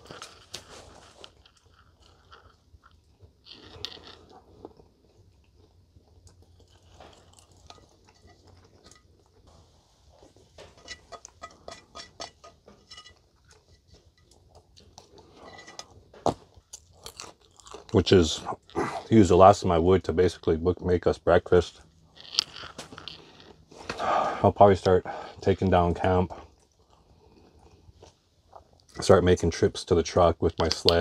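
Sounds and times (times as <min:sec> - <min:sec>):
chewing and crunching food: 0:00.0 - 0:29.6, 0:30.2 - 0:31.0.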